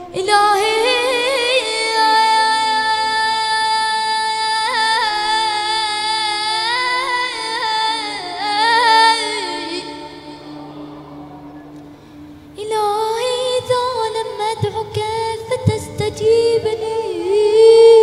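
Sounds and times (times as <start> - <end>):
boy chanting melodically: 0.0 - 18.0.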